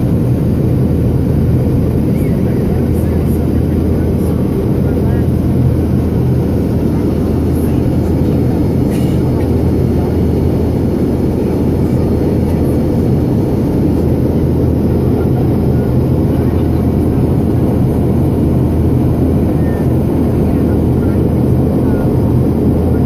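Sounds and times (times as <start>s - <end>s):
constant cabin hum: 0.0s - 23.0s
jet engines droning: 0.0s - 23.0s.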